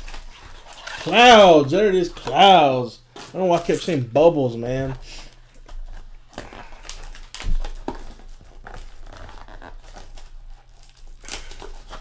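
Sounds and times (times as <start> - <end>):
cardboard rustling and scraping: 0.0 - 2.5, 4.9 - 12.0.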